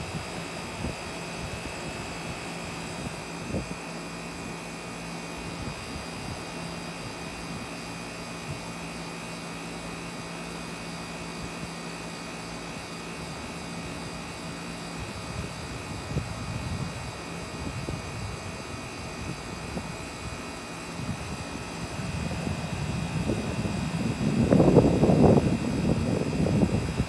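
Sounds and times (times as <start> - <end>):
air conditioner fan whoosh: 0.0 - 27.0.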